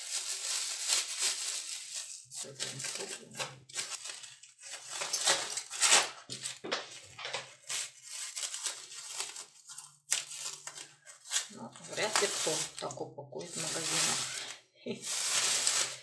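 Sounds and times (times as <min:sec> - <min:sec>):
cling film crinkling: 0:00.0 - 0:16.0.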